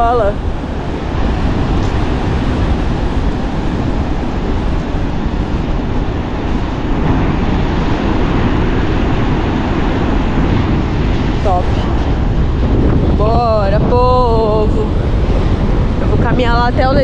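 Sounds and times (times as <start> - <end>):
surf breaking: 0.0 - 17.0
wind buffeting microphone: 0.0 - 17.0.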